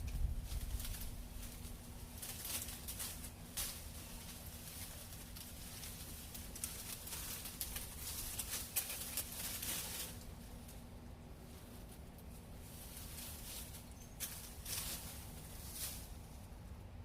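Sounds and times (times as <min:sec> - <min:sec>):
branches rustling and snapping: 0:00.0 - 0:16.8.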